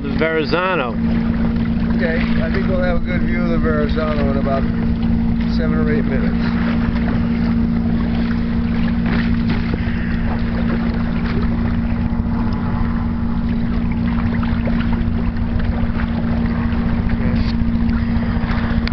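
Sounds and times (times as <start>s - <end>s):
steady low hum: 0.0s - 18.9s
water washing past kayak: 0.0s - 18.9s
wind buffeting microphone: 0.0s - 18.9s.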